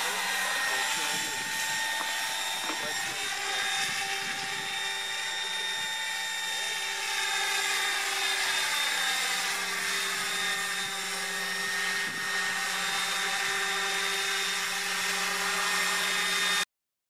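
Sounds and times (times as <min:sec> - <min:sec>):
rotor blades rushing: 0:00.0 - 0:16.6
high-pitched motor whine: 0:00.0 - 0:16.7.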